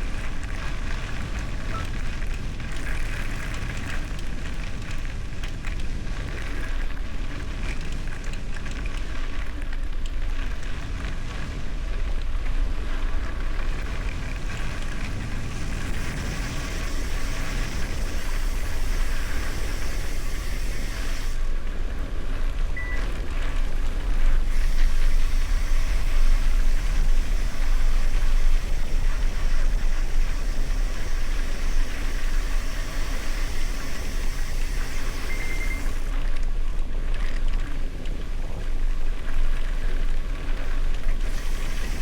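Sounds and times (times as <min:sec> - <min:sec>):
bicycle tyres crackling over gravel: 0:00.0 - 0:42.0
wind rumbling on microphone: 0:00.0 - 0:42.0.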